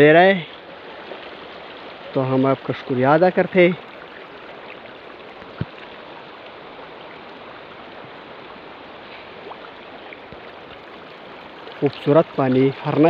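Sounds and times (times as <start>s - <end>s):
river water flowing over stones: 0.0s - 13.0s.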